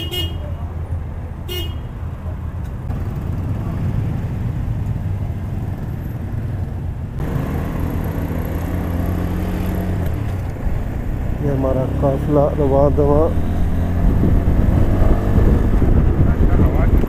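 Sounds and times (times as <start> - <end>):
motorcycle engines rumbling: 0.0 - 17.0
motorcycle riding along street: 0.0 - 17.0.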